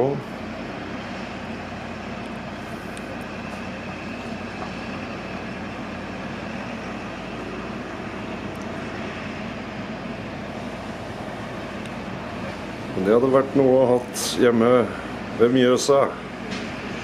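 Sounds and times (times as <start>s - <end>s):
background rumble and hiss: 0.0s - 17.0s.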